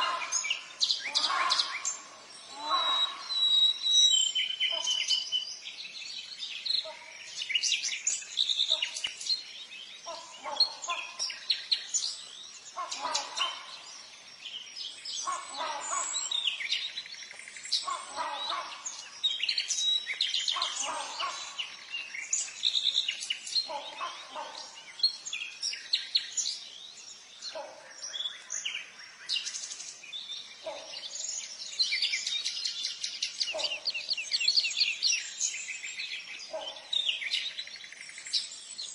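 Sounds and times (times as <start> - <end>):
harsh bird calls: 0.0 - 5.7, 6.8 - 26.7, 27.4 - 38.9
birds chirping and twittering: 0.0 - 38.9.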